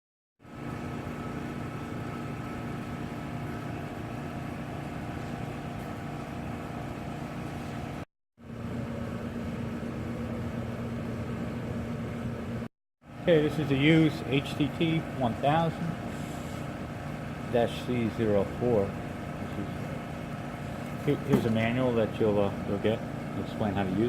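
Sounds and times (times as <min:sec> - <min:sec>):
machine hum: 0:00.4 - 0:24.0.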